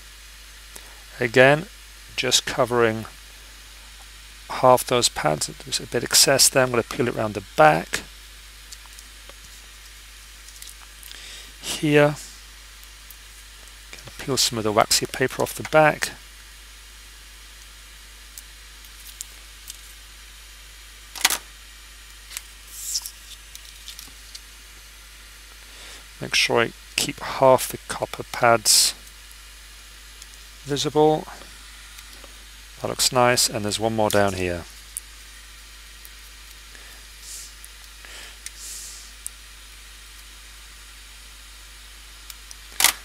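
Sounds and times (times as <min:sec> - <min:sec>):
low hiss: 0:00.0 - 0:43.0.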